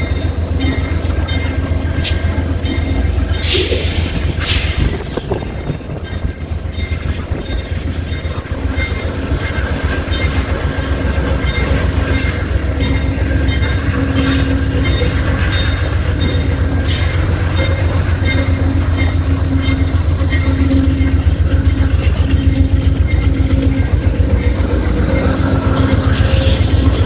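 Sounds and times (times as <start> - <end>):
train rumbling by: 0.0 - 27.0.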